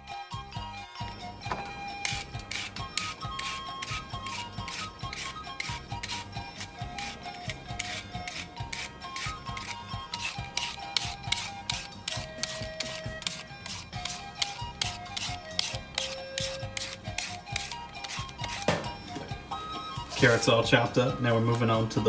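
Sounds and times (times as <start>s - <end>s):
background music with simple melody: 0.0s - 22.0s
carrot being chopped: 1.1s - 19.2s.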